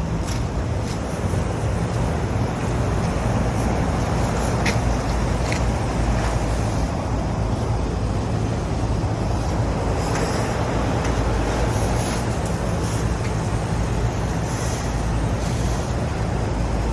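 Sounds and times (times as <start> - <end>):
fan air rushing: 0.0 - 16.9
low electrical hum: 0.0 - 16.9.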